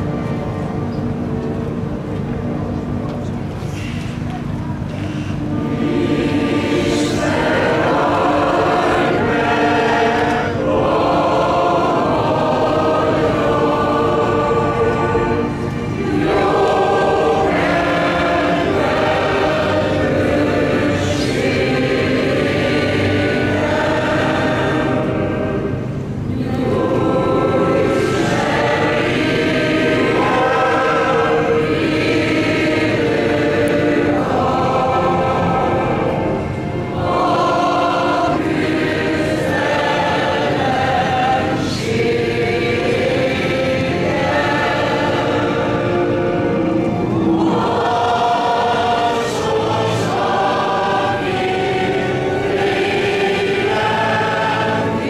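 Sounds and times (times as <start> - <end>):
choir singing a hymn: 0.0 - 2.4, 5.0 - 55.0.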